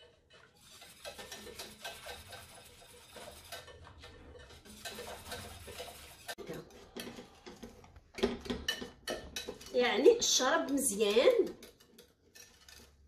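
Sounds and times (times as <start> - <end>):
whisk clicking against pot: 0.0 - 13.0.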